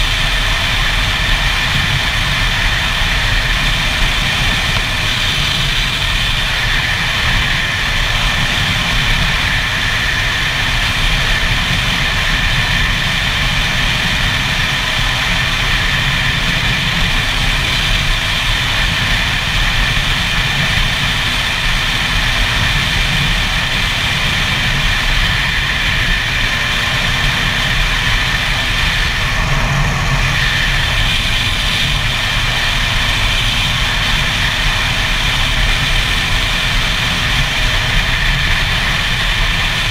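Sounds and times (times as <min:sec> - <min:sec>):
two-stroke motorcycle engine: 0:00.0 - 0:39.9
wind rumble on microphone: 0:00.0 - 0:39.9.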